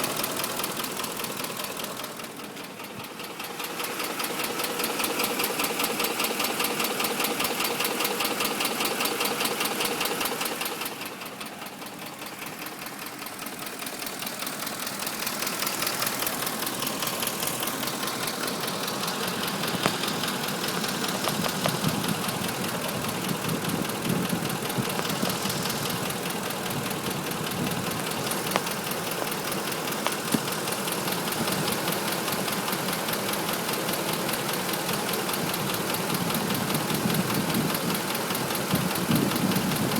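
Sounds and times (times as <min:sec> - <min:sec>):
engine running with rapid knocking: 0:00.0 - 0:39.9.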